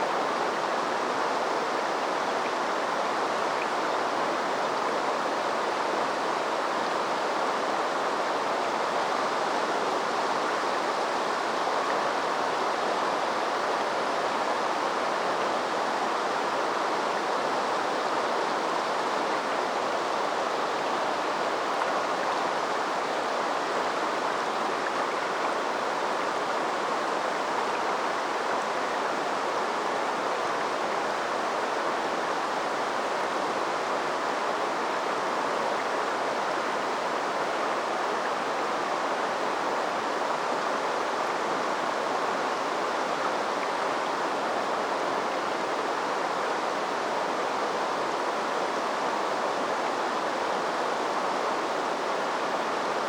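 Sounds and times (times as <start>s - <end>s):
stream water rushing over rocks: 0.0s - 53.0s.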